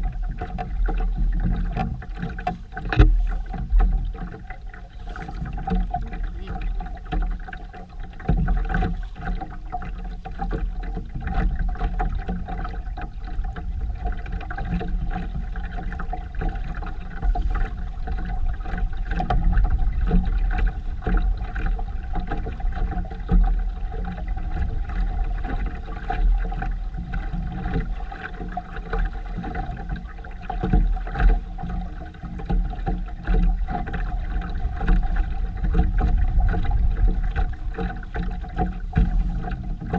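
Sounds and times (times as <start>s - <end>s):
wind and water rumble: 0.0s - 39.9s.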